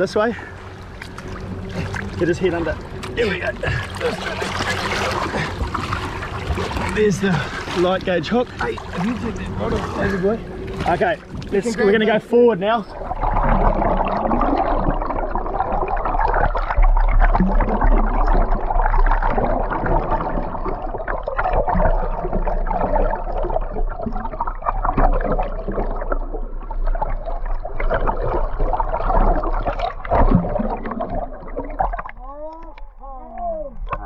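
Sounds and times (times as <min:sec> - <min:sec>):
water rushing and gurgling: 0:00.0 - 0:34.0.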